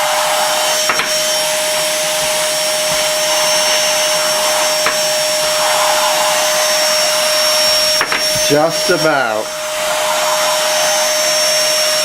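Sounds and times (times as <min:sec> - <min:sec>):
handheld vacuum cleaner running: 0:00.0 - 0:12.0.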